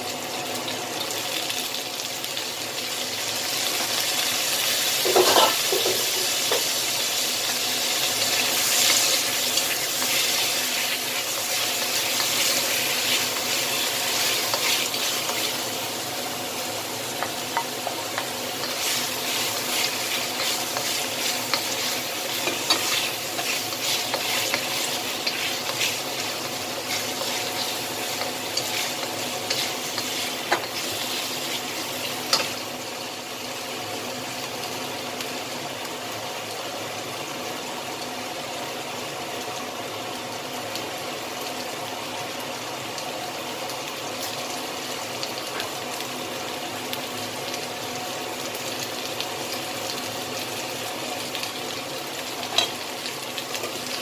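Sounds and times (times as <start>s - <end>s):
chicken wings sizzling in oil: 0.0s - 54.0s.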